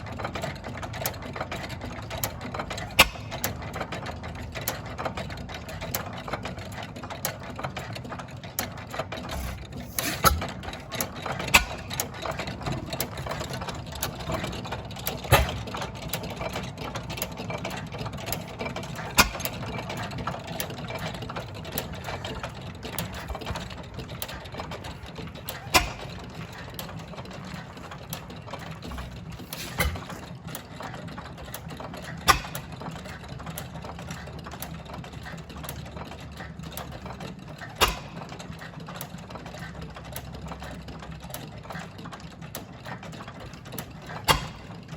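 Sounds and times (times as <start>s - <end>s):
engines clattering: 0.0s - 44.9s.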